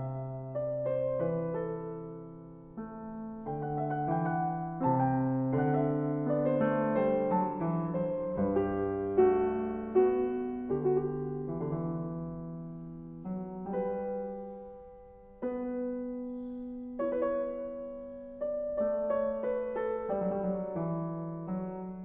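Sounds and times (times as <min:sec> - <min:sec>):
slow solo piano chords: 0:00.0 - 0:22.0.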